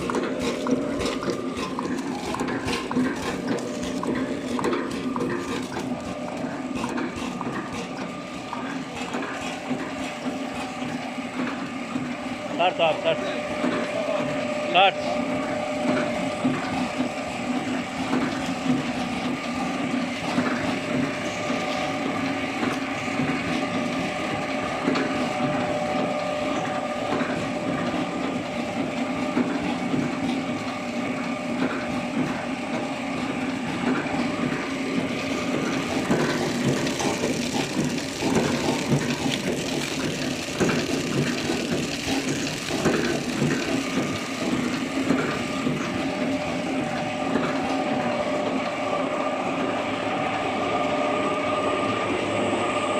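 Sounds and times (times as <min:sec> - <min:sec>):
packaging machine hum: 0:00.0 - 0:52.9.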